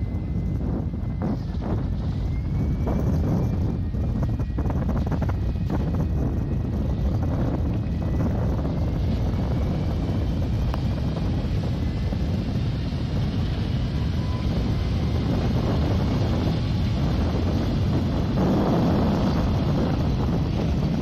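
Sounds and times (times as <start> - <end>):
boat engines droning: 0.0 - 21.0
wind and water noise: 0.0 - 21.0
wind buffeting on microphone: 0.0 - 21.0.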